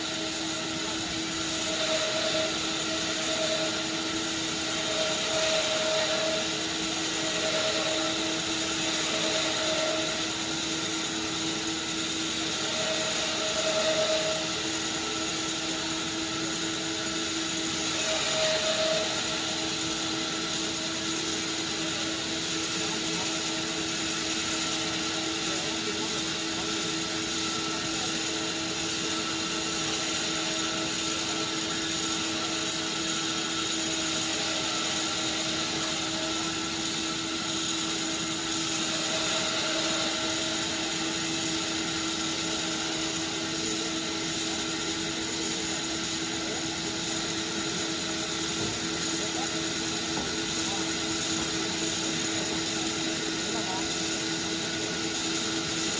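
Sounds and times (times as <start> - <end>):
sawmill machine hum: 0.0 - 55.9.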